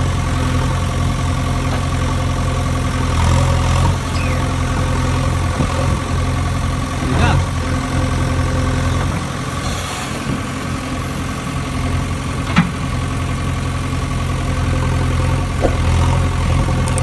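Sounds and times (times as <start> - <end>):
engine idling drone: 0.0 - 17.0.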